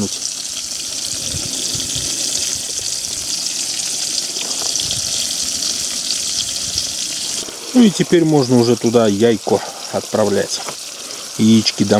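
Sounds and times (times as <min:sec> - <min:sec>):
tomatoes sizzling in lard: 0:00.0 - 0:11.9.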